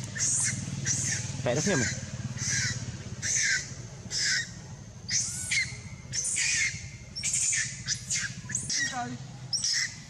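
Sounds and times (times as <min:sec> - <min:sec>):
steady low hum: 0:00.0 - 0:10.0
baby monkey crying: 0:00.2 - 0:10.0.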